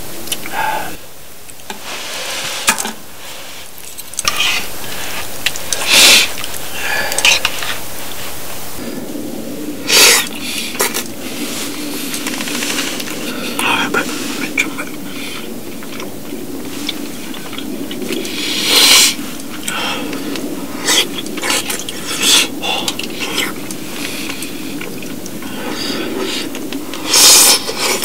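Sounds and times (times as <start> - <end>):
pot simmering hiss: 0.0 - 28.0.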